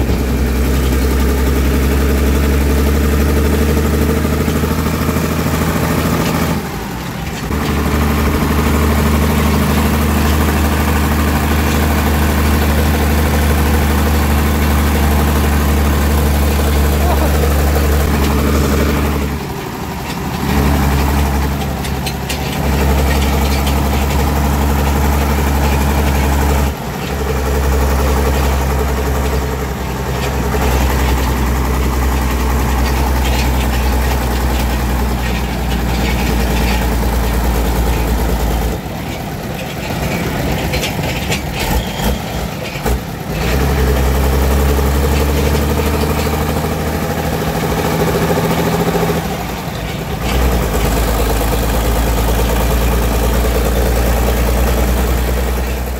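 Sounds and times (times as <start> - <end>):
truck engine running steadily: 0.0 - 55.9.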